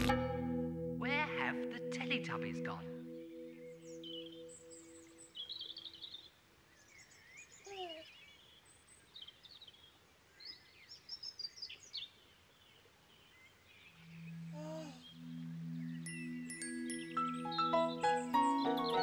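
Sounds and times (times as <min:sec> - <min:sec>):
background hiss: 0:00.0 - 0:19.0
birds chirping and twittering: 0:01.1 - 0:19.0.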